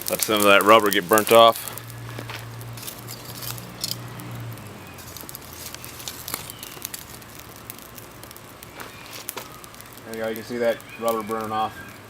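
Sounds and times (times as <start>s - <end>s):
forge fire crackling: 0.0s - 12.0s
sharp pops: 0.0s - 12.0s.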